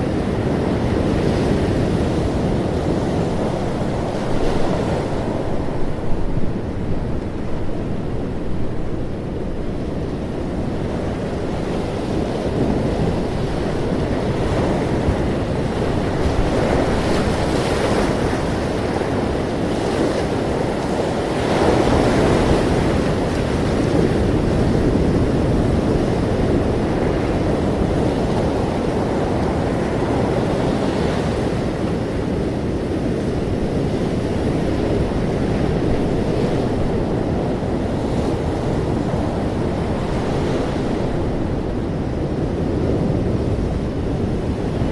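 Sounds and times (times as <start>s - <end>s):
ocean waves breaking: 0.0s - 44.9s
wind rumbling on microphone: 0.0s - 44.9s.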